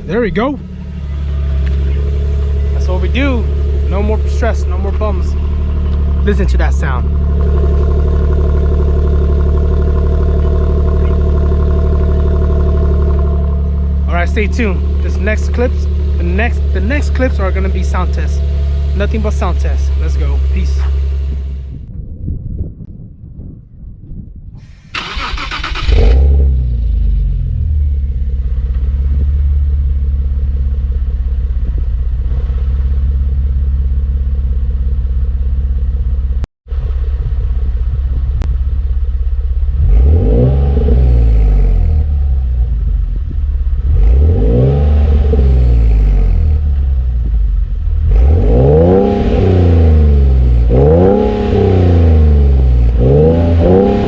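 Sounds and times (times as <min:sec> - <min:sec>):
car engine idling and revving: 0:00.0 - 0:21.9, 0:24.6 - 0:54.0.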